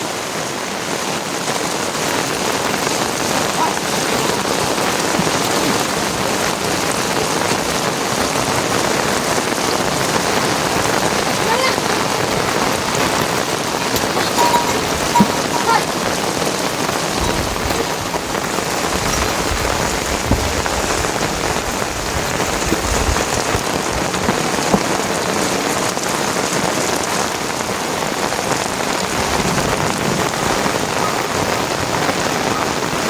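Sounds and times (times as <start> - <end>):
individual raindrops: 0.0 - 33.0
steady rain: 0.0 - 33.0.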